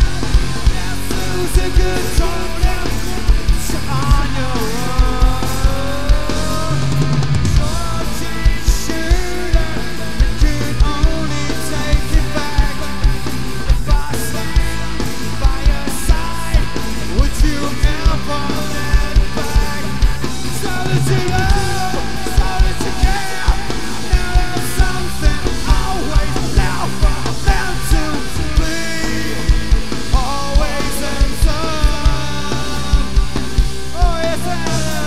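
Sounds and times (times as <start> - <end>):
bass guitar: 0.0 - 35.0
distorted electric guitar: 0.0 - 35.0
pounding drum beat: 0.0 - 35.0.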